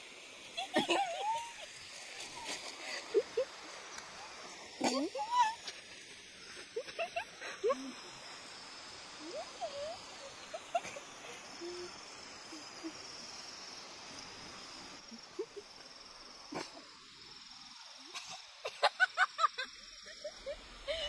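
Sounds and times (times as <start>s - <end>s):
high-pitched insect trill: 0.0s - 21.0s.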